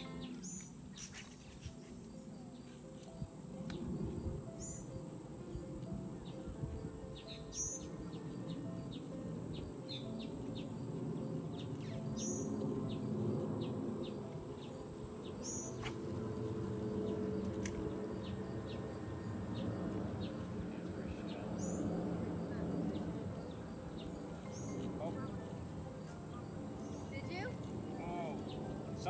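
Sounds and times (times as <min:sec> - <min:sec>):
steady low background noise: 0:00.0 - 0:29.0.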